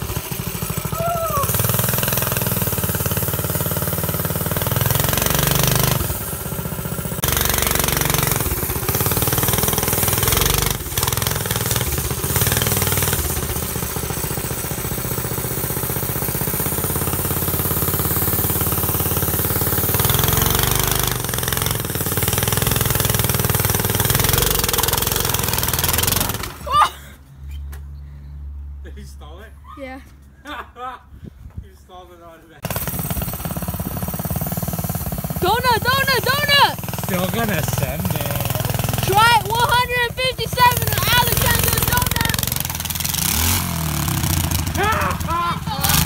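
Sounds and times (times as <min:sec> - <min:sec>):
go-kart engine running rough: 0:00.0 - 0:26.9, 0:32.6 - 0:46.0.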